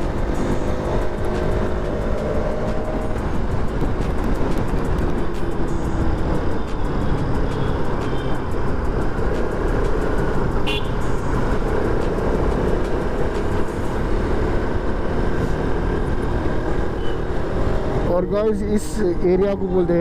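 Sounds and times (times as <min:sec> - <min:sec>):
motorcycle engine running: 0:00.0 - 0:18.2
traffic noise: 0:00.0 - 0:20.0.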